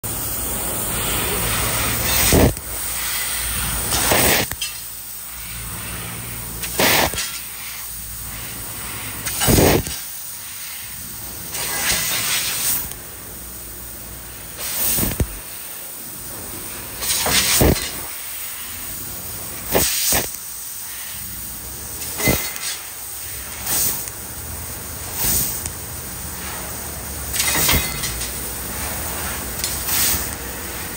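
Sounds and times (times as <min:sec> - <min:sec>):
laser cutter hissing: 0:00.0 - 0:30.9.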